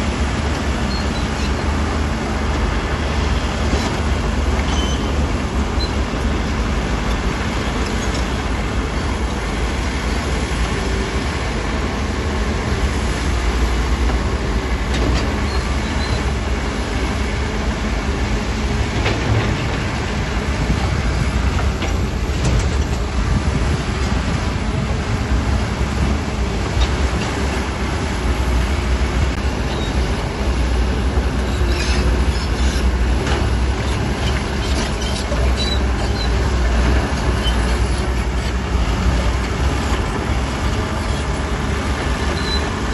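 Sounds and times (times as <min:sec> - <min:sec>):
bulldozer diesel engine running: 0:00.0 - 0:42.9
steel tracks clanking and squealing: 0:00.2 - 0:12.1, 0:13.8 - 0:42.9.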